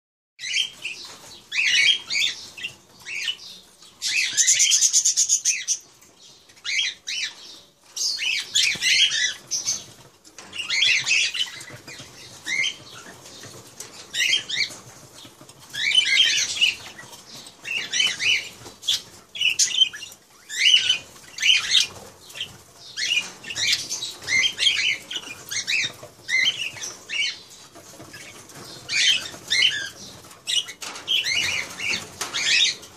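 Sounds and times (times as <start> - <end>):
birds rustling: 0.4 - 32.9
parakeets chirping: 0.4 - 32.9.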